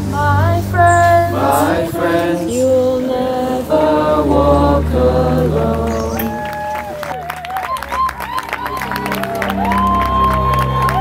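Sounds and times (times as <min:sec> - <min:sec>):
choir singing held notes: 0:00.0 - 0:11.0
low drone: 0:00.0 - 0:11.0.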